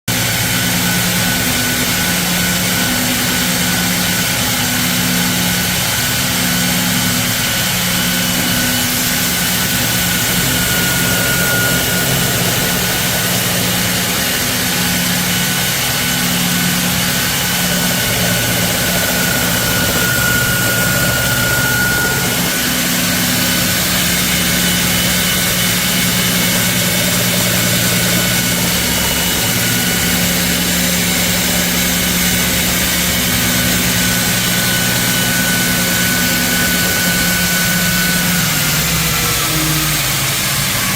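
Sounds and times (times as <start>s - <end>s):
loud motor hum: 0.0s - 40.9s
abrasive grinding hiss: 0.1s - 40.9s
faint machine whine: 0.1s - 40.9s.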